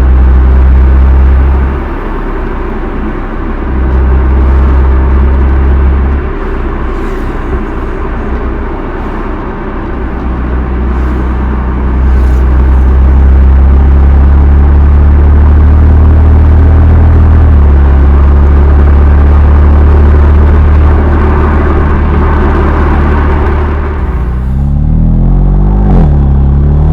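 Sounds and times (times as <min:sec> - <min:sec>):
car engine exhaust revving: 0:00.0 - 0:26.9.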